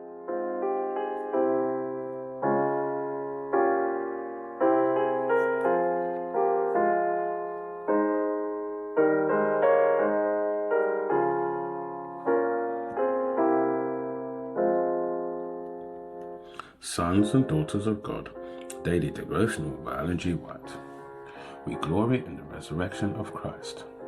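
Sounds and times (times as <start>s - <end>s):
slow gentle piano chords: 0.0s - 24.0s.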